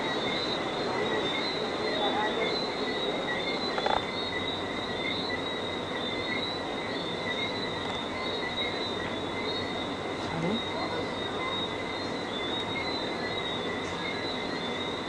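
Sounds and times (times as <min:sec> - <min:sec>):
constant hiss: 0:00.0 - 0:15.0
insects and frogs chorus: 0:00.0 - 0:15.0.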